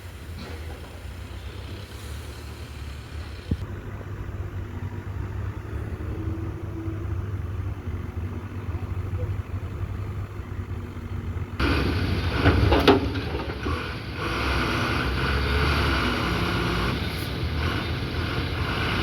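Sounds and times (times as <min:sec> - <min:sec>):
engine idling rumble: 0:00.0 - 0:15.4.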